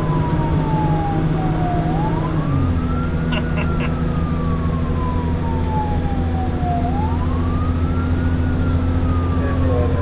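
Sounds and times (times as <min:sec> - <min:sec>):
fire truck siren wailing: 0:00.0 - 0:10.0
truck engine rumble: 0:00.0 - 0:10.0.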